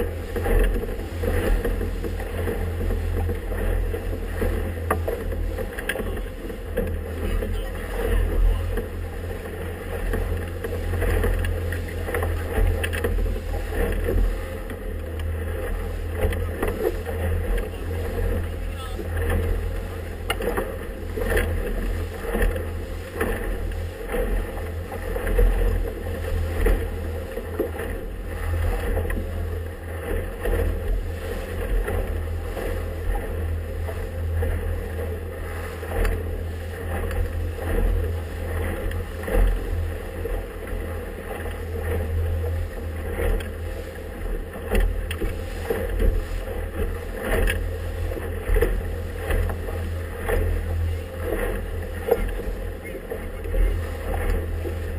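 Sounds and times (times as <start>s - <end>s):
rushing water: 0.0s - 54.9s
waves slapping boat hull: 0.0s - 54.9s.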